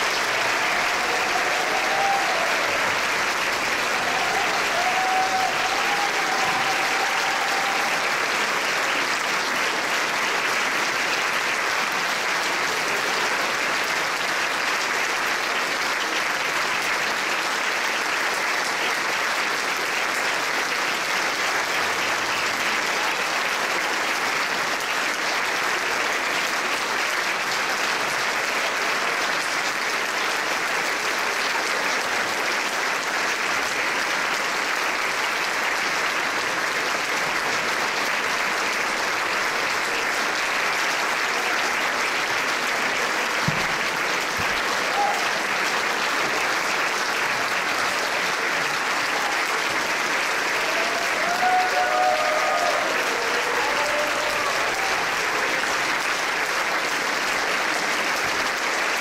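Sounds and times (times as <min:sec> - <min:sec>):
large audience applauding: 0:00.0 - 0:59.0.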